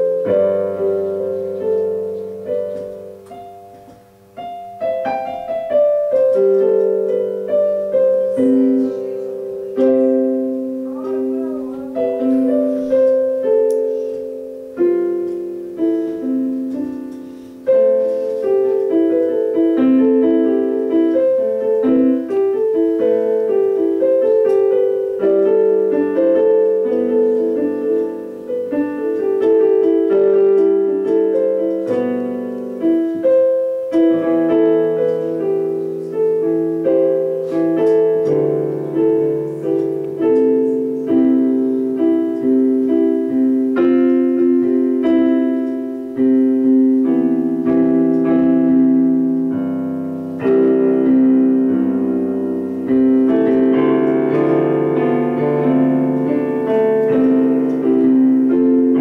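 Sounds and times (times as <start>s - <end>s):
slow piano music: 0.0s - 59.0s.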